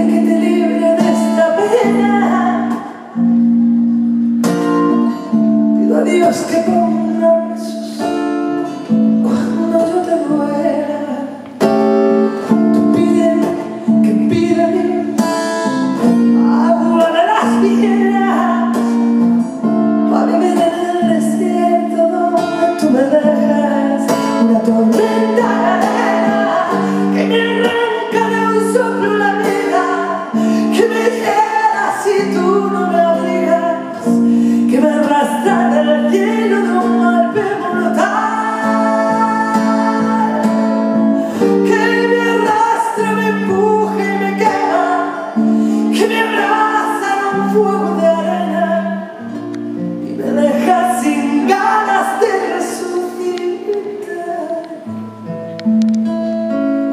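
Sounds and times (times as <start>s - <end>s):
woman singing a slow ballad: 0.0s - 3.6s, 4.6s - 55.2s
acoustic guitar: 0.0s - 56.9s.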